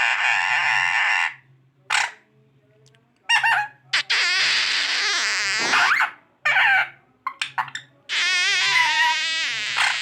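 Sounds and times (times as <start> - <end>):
parrot squawking: 0.0 - 2.2, 3.3 - 10.0.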